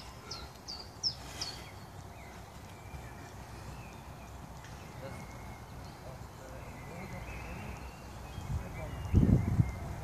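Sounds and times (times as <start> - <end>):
songbird singing: 0.0 - 10.0.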